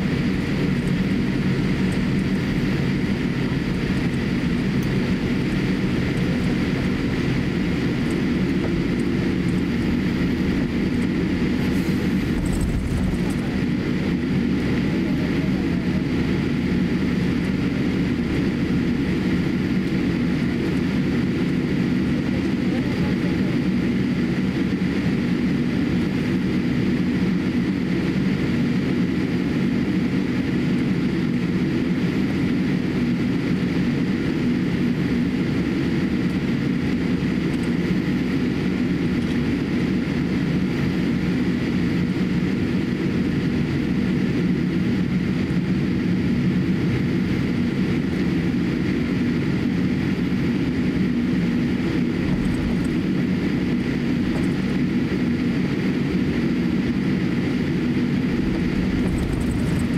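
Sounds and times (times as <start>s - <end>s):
jet engines humming at taxi power: 0.0s - 59.9s.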